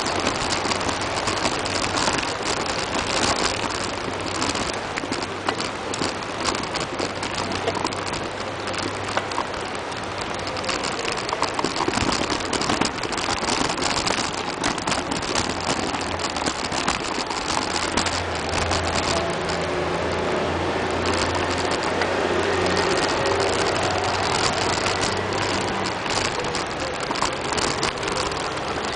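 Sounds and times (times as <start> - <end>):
bicycle rattling over rough track: 0.0 - 28.9.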